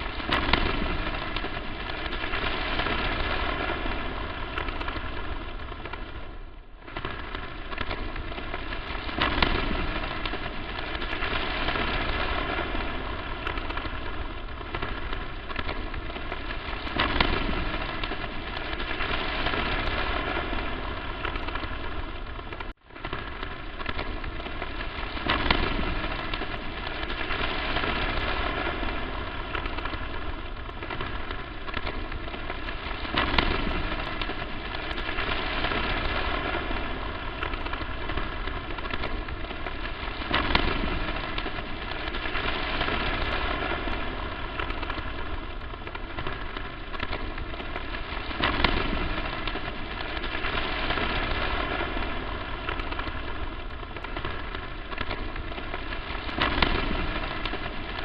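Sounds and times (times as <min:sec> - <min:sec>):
crackling static hiss: 0:00.0 - 0:58.0.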